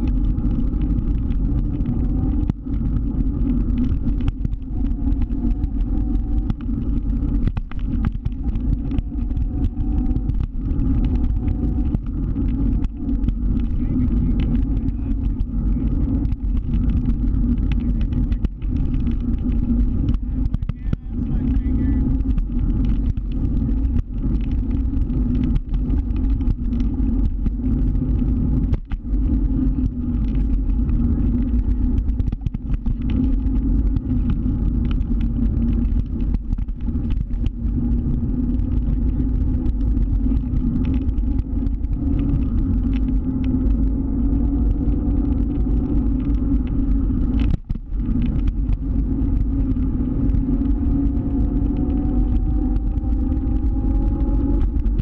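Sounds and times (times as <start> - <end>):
low ride noise: 0.0 - 55.0
motor scooter engine running: 0.0 - 55.0.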